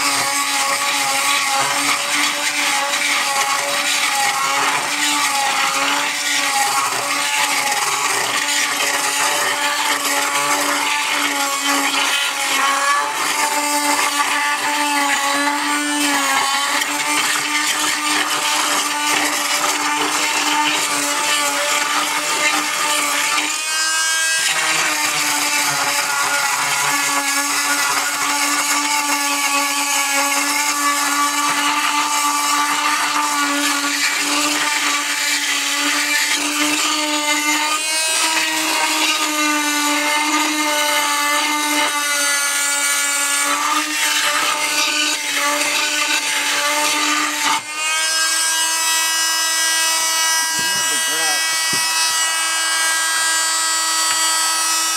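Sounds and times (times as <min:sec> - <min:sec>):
blade scraping tile: 0:00.0 - 0:54.9
oscillating tool buzzing: 0:00.0 - 0:54.9.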